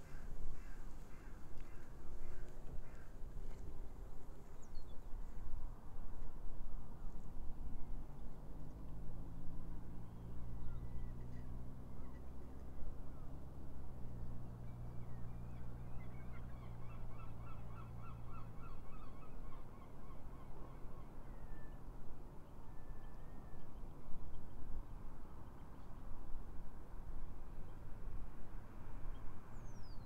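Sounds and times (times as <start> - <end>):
low engine hum: 1.8 - 30.0.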